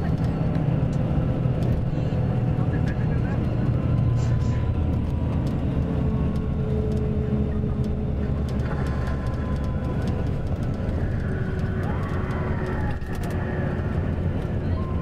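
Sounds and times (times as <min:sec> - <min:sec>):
diesel coach engine droning: 0:00.0 - 0:15.0.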